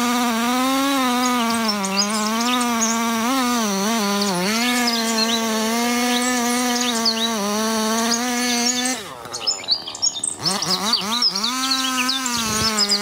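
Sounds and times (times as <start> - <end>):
birds chirping: 0.0 - 13.0
chainsaw running at high revs: 0.0 - 13.0.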